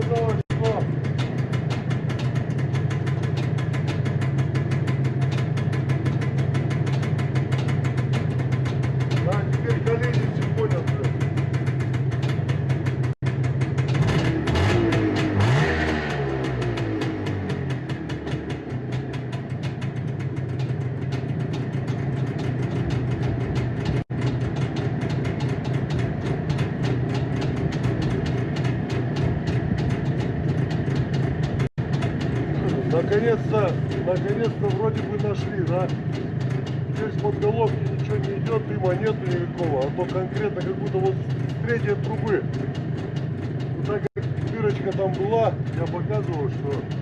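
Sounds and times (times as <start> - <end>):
two-stroke engine idling: 0.0 - 47.0.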